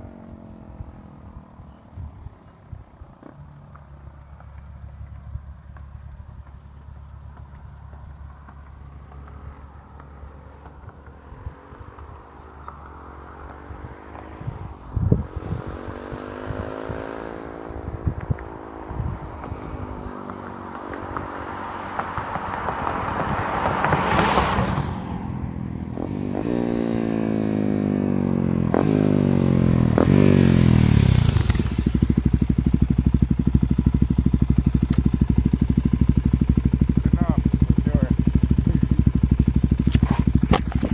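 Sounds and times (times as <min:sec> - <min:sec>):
crickets chirping: 0:00.0 - 0:40.9
motorcycle engine revving and idling: 0:00.0 - 0:40.9.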